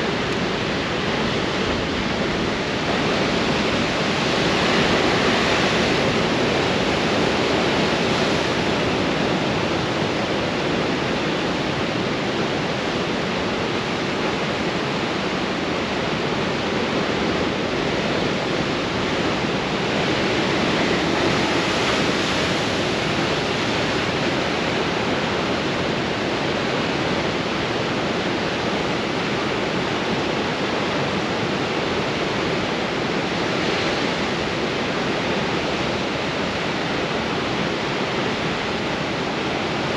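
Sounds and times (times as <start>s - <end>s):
strong wind: 0.0s - 39.9s.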